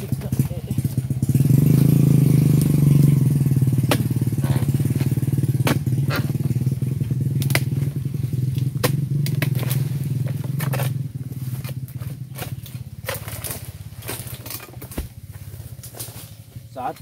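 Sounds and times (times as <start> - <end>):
chisel knocking on palm stalks: 0.0 - 16.3
small engine droning: 0.0 - 17.0.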